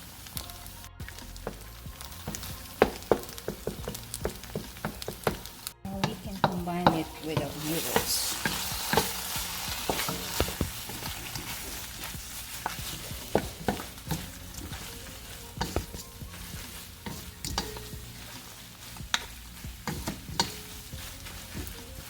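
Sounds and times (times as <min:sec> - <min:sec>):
food sizzling in a pan: 0:00.0 - 0:22.0
utensil scraping a pan: 0:00.0 - 0:22.0.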